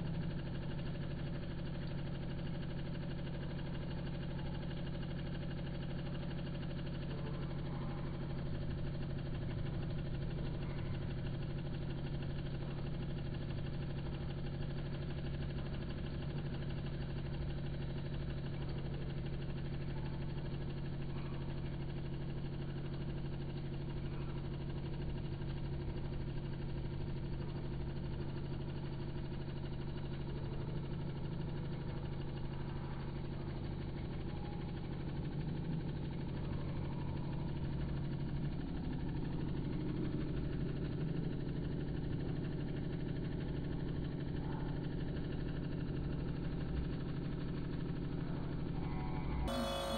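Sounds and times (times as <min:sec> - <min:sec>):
aquarium pump humming: 0:00.0 - 0:49.9.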